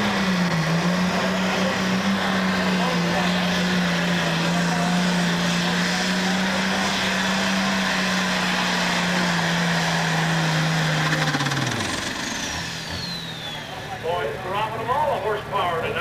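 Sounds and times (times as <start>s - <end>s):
tractor engine at full power: 0.0s - 16.0s.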